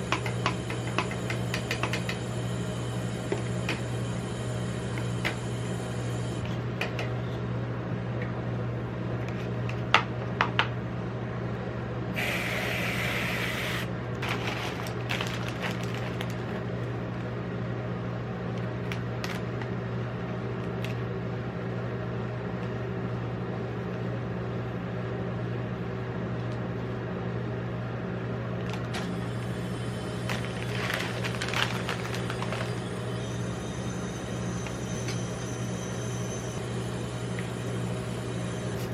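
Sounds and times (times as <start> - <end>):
electrical hum of refrigeration unit: 0.0 - 38.9.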